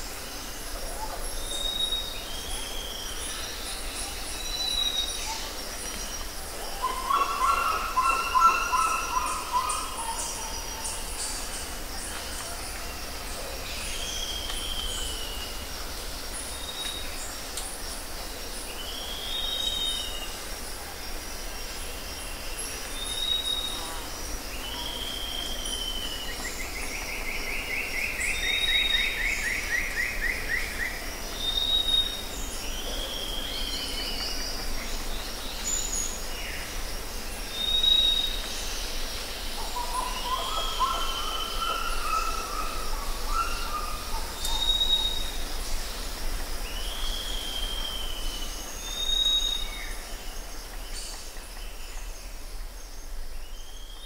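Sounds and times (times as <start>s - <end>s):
birds calling and singing: 0.0s - 20.8s, 21.8s - 54.0s
background hiss: 0.0s - 54.0s.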